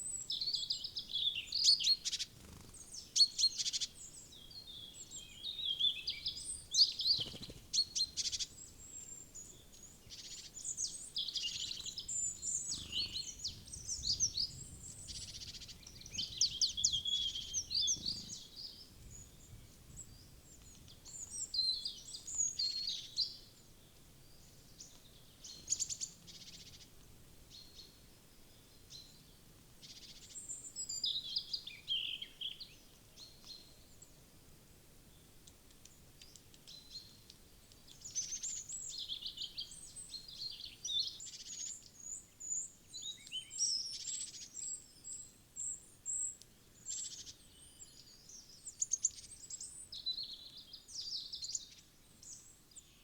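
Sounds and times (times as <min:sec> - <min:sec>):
small birds chirping: 0:00.0 - 0:34.1, 0:35.1 - 0:53.0.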